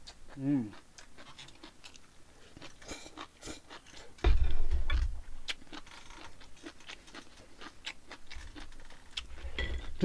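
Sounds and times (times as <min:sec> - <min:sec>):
chewing: 0:00.0 - 0:04.2, 0:05.4 - 0:10.0.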